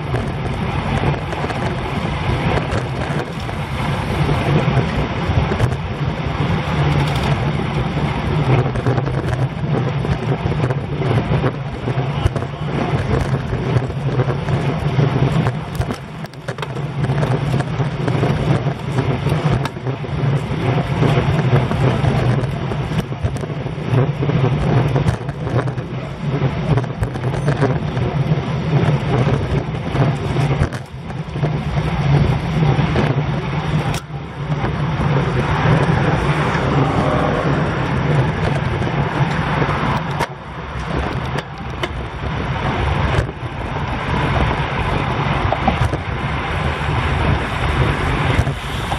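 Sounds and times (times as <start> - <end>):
tyre and road noise: 0.0 - 48.9
wind buffeting microphone: 0.0 - 48.9.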